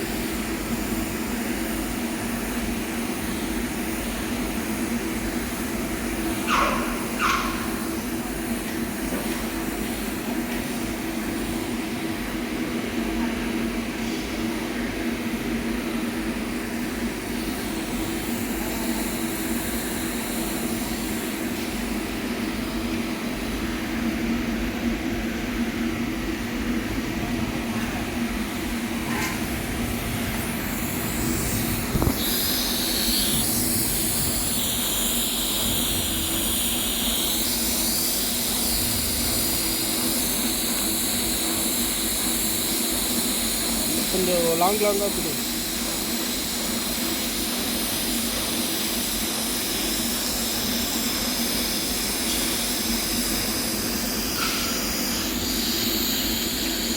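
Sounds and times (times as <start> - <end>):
welding arc hiss and hum: 0.0 - 56.9.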